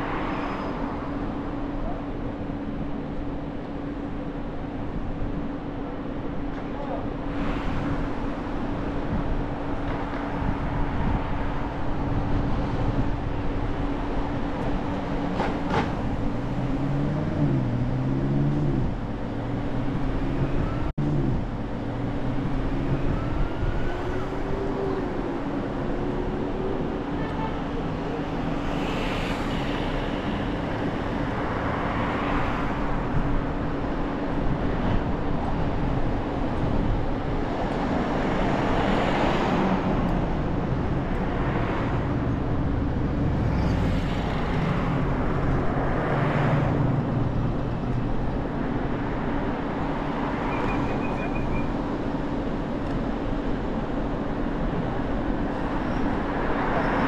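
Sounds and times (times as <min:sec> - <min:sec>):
car road and engine noise: 0:00.0 - 0:57.0
passing traffic: 0:00.0 - 0:57.0.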